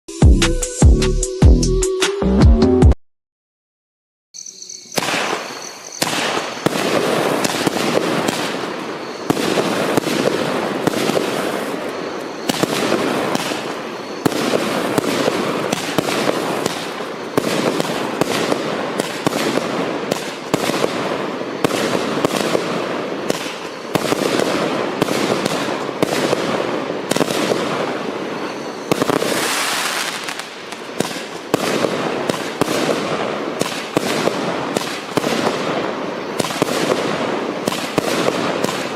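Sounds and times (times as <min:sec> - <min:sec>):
firework barrage shots and crackling: 0:04.9 - 0:38.9.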